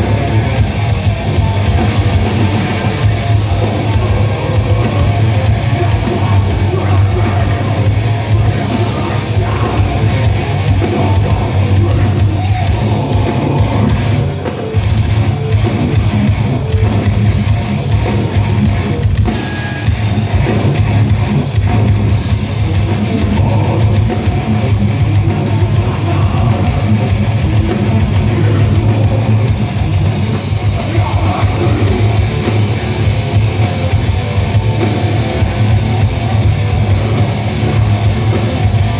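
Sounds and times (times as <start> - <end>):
bass guitar: 0.0 - 38.9
distorted electric guitars: 0.0 - 38.9
pounding drum kit: 0.0 - 38.9
vocals: 1.1 - 16.1, 21.6 - 38.9.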